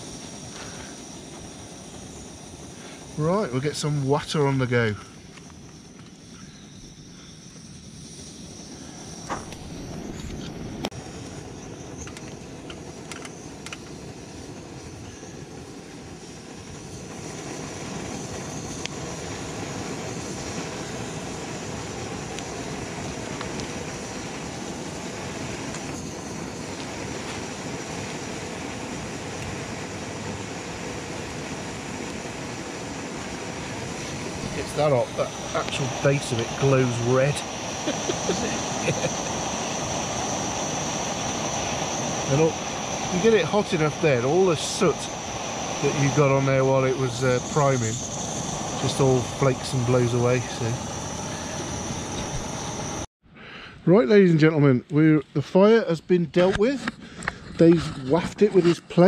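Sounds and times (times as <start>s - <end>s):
camping stove roaring: 0.0s - 59.0s.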